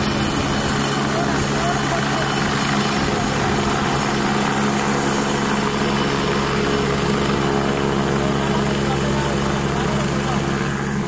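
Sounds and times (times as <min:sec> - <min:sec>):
helicopter flying close by: 0:00.0 - 0:11.0
high turbine whine: 0:00.0 - 0:11.0.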